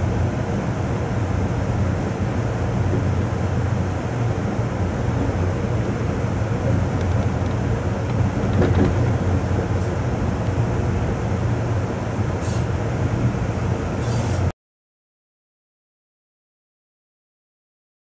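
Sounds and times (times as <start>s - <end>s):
train wheels rumbling on rail: 0.0s - 14.5s.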